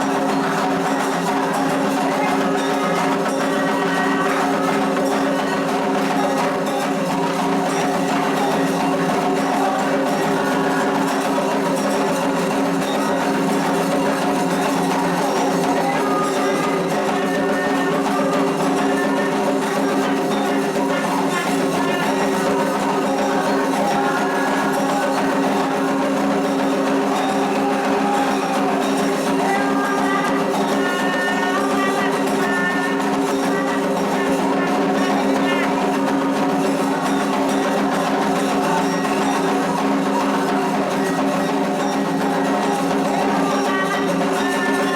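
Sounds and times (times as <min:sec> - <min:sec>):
hand drums and percussion: 0:00.0 - 0:44.9.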